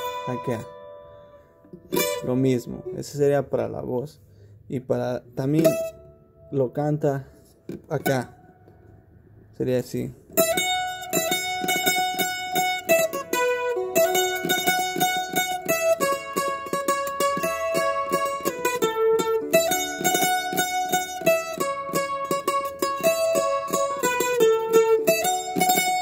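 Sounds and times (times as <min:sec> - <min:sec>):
tremolo string instrument melody: 0:00.0 - 0:04.1, 0:04.9 - 0:26.0.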